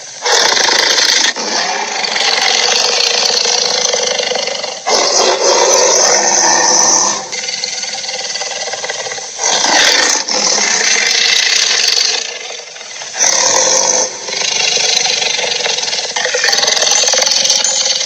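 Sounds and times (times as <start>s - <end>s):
rasping monster growl: 0.2s - 18.0s.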